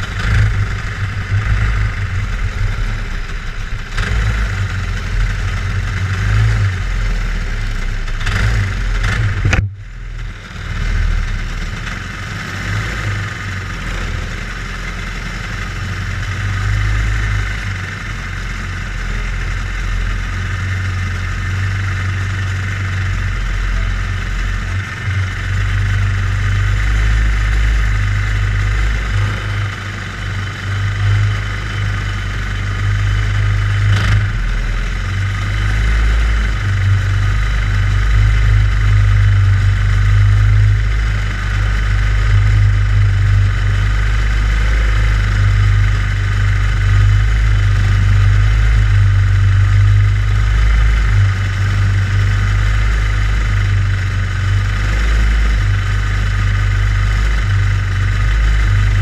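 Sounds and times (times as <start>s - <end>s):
go-kart engines idling: 0.0s - 59.0s.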